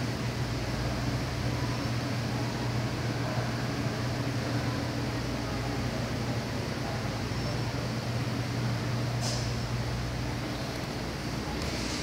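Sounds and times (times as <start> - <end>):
ceiling fans running: 0.0 - 12.0.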